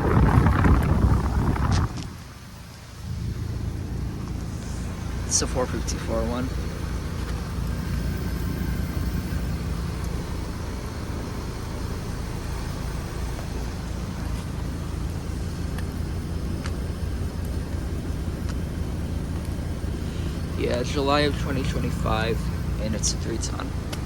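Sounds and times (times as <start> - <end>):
compressor hum: 0.0 - 24.0.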